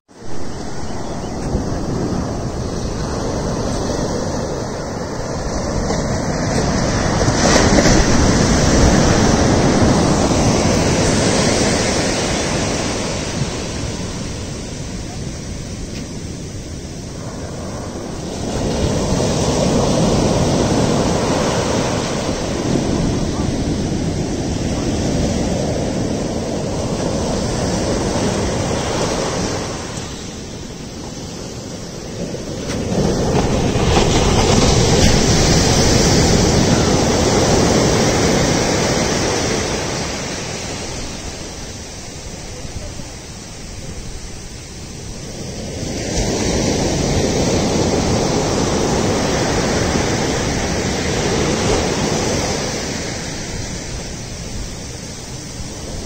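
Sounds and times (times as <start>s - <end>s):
surf breaking on a beach: 0.1s - 56.0s.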